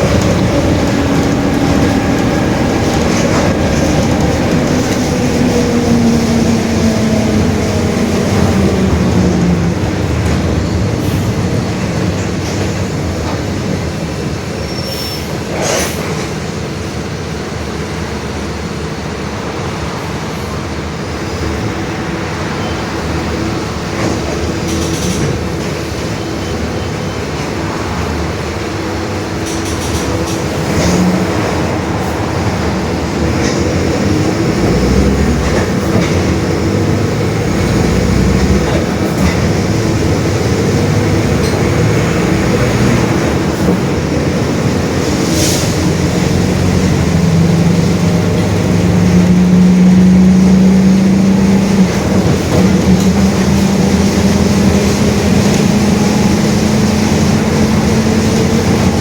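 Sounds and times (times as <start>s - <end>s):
bus diesel engine running: 0.0s - 59.0s
road noise: 0.0s - 59.0s.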